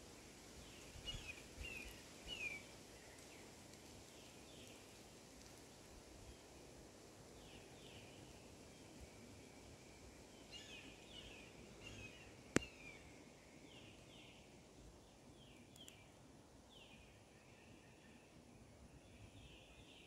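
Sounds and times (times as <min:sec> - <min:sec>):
quiet outdoor hiss: 0:00.0 - 0:20.0.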